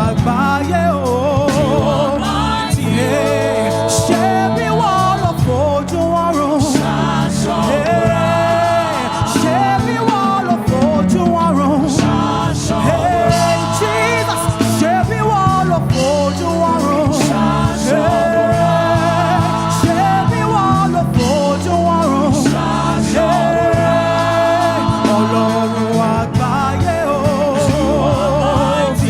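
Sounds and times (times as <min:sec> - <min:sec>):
keyboard chords: 0:00.0 - 0:29.0
person singing with long runs: 0:00.0 - 0:29.0
sustained bass: 0:00.0 - 0:29.0.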